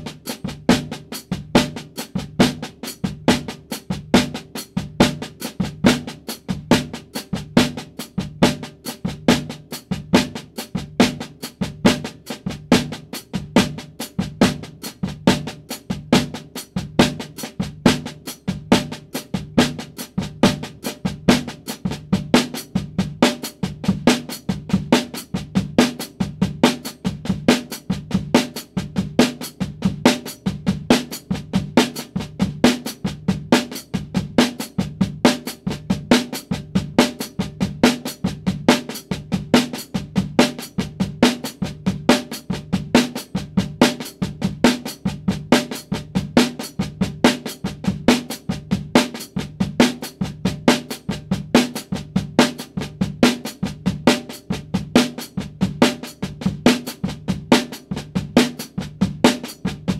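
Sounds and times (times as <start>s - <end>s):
snare drum paradiddles: 0.0s - 59.9s.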